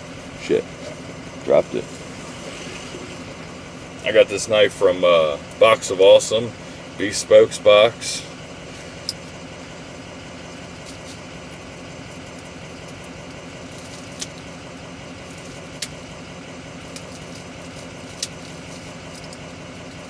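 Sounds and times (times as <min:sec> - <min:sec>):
truck idling: 0:00.0 - 0:20.0.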